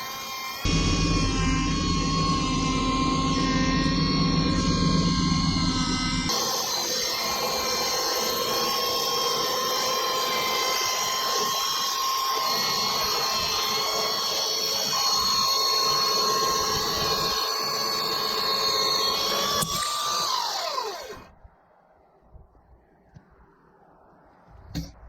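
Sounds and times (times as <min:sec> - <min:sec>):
electric chainsaw sawing log: 0:00.0 - 0:21.3.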